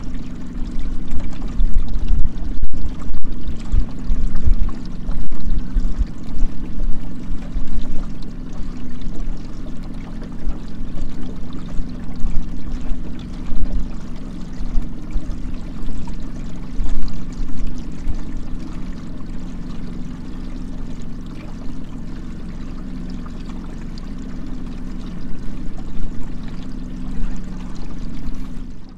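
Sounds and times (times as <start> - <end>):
boat motor humming: 0.0 - 28.9
low buffeting: 0.0 - 28.9
water splashing along hull: 0.0 - 28.9.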